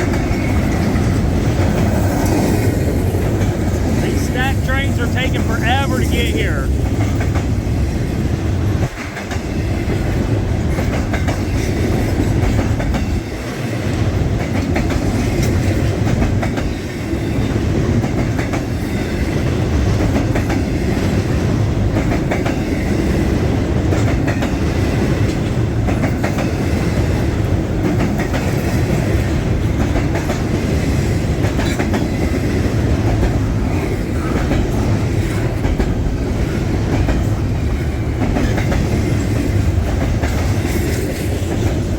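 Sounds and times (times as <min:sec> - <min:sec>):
train wheels clacking on rails: 0:00.0 - 0:41.9.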